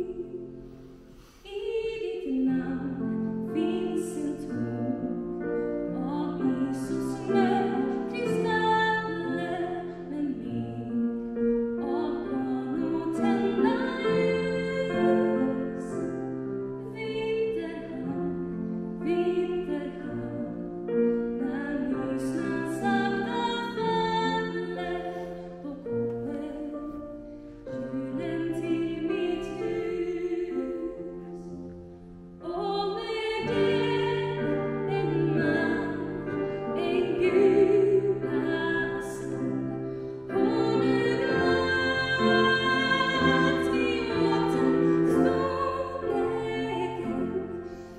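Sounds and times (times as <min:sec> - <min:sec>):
woman singing: 0:01.4 - 0:27.1, 0:27.7 - 0:31.6, 0:32.4 - 0:47.9.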